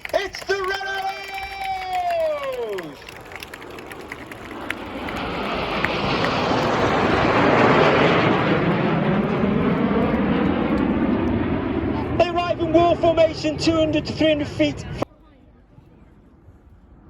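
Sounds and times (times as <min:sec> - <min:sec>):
jet engines roaring overhead: 0:00.0 - 0:15.1.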